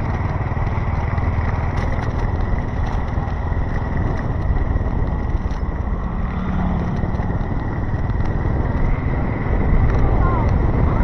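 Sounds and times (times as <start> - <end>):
rumble of passing cars and motorcycles: 0.0 - 11.0.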